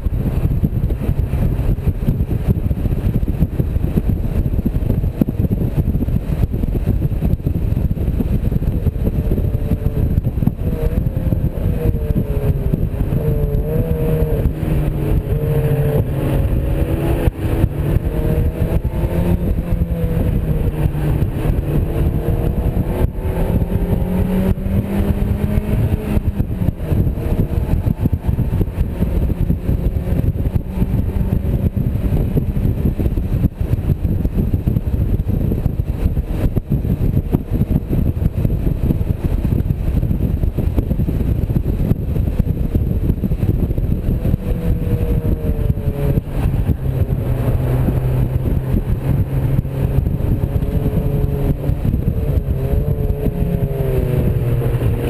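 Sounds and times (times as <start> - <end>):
car engine revving: 0.0 - 55.0
wind rumble on microphone: 0.0 - 55.0.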